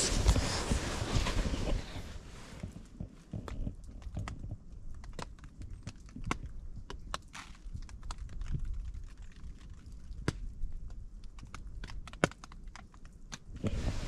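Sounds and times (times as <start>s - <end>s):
rain tapping on tarp: 2.4s - 14.0s.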